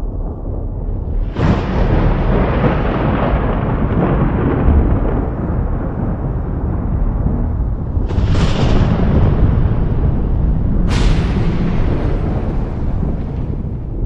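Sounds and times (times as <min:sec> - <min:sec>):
thunder crack and rumble: 0:00.0 - 0:14.0.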